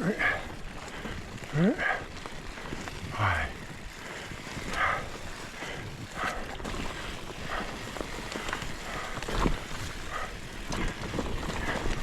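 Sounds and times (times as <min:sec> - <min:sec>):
bike rattles and clicks: 0:00.0 - 0:12.0
bike tyre noise: 0:00.0 - 0:12.0
rider breathing in puffs: 0:00.0 - 0:12.0.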